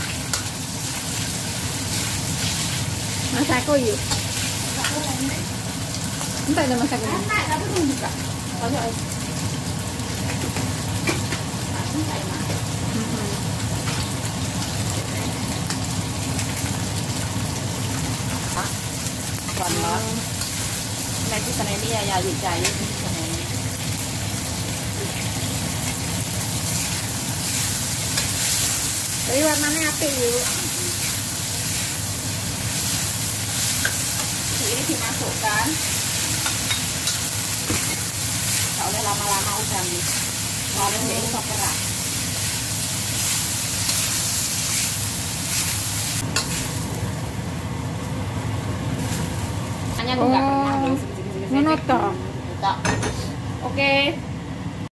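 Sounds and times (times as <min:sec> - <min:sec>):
food sizzling in a wok: 0:00.0 - 0:51.0.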